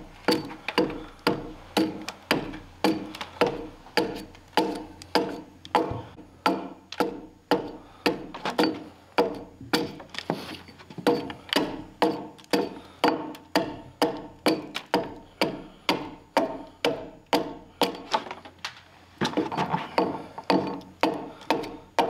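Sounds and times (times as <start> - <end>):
hatchet chopping log: 0.0 - 10.4, 11.0 - 18.3, 19.2 - 22.0.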